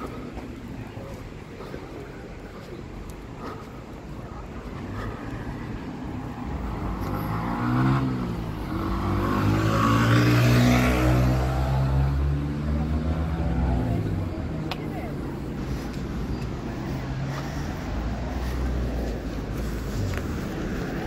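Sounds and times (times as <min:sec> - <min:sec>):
road vehicle engine: 0:00.0 - 0:21.0.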